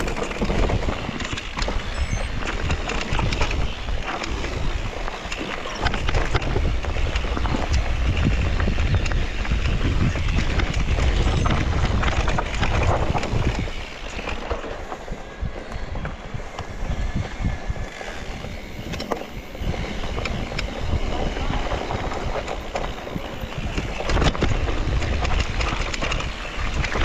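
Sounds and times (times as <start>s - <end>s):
bike rattling over bumps: 0.0s - 27.0s
wind buffeting microphone: 0.0s - 27.0s.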